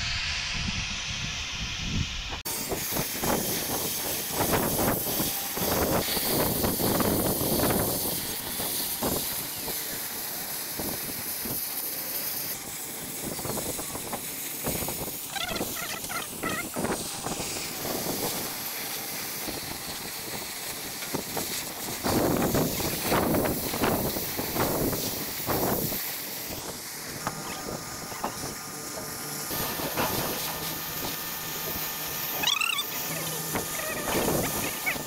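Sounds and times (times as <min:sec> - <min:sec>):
cutting torch hissing: 0:00.0 - 0:35.0.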